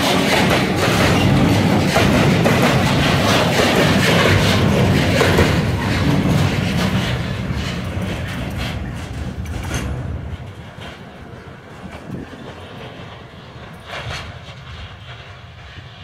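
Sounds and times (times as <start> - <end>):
freight train wheels knocking on rails: 0.0 - 15.9.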